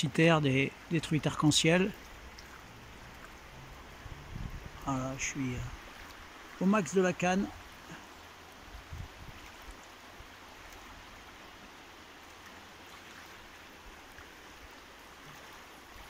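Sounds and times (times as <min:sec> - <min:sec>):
river current over riffle: 0:00.0 - 0:16.0.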